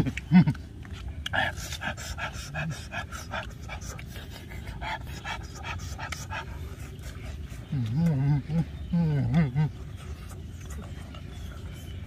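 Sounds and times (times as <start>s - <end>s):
people chewing and lip smacking: 0.0s - 12.0s.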